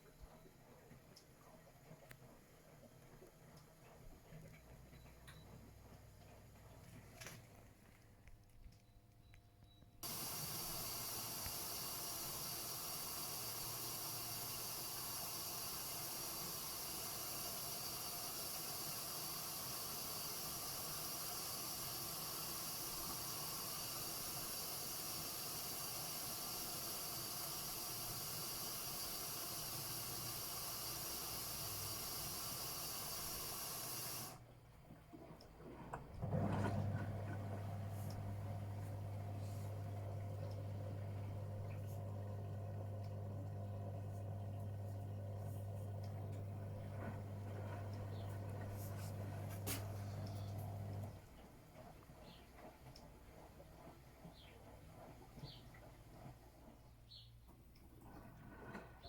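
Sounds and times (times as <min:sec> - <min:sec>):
water rushing into washing machine: 0:10.0 - 0:59.0.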